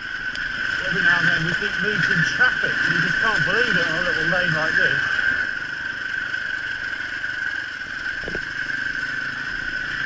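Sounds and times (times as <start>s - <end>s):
high-pitched whine: 0.0s - 10.0s
motorcycle engine running: 0.0s - 10.0s.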